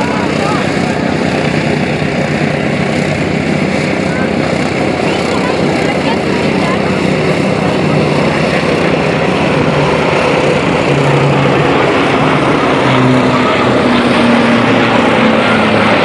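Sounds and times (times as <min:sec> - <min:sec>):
propeller aircraft engine running: 0:00.0 - 0:16.0.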